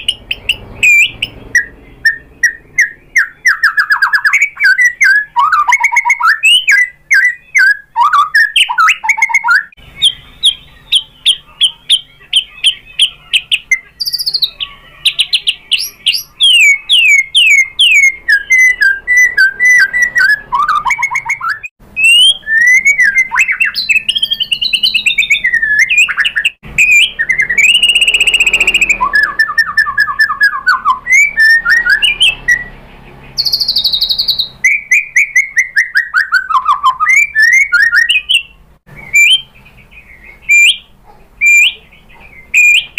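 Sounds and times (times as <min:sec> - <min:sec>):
bird singing varied song: 0:00.0 - 0:42.9.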